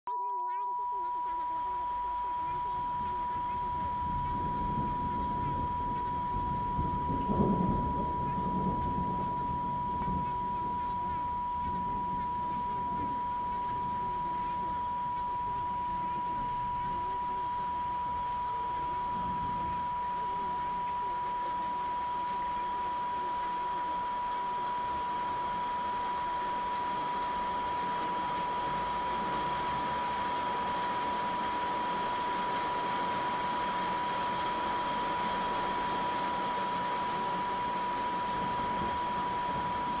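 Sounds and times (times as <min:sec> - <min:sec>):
steady sine tone: 0:00.0 - 0:40.0.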